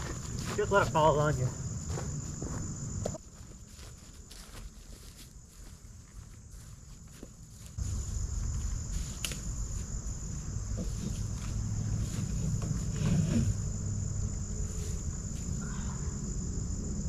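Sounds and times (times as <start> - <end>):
crickets and insects chirping: 0.0 - 17.0.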